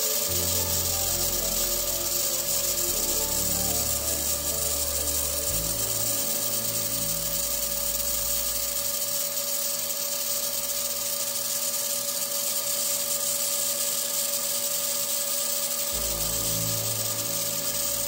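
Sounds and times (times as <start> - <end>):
welding arc hissing and buzzing: 0.0 - 18.0.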